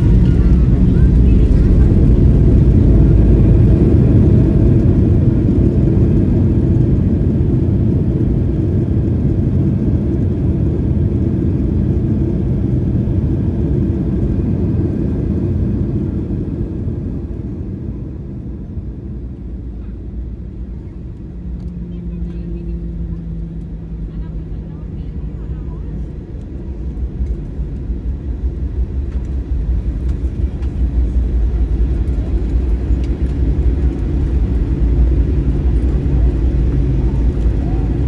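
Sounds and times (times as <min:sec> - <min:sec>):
airliner cabin rumble: 0:00.0 - 0:38.0.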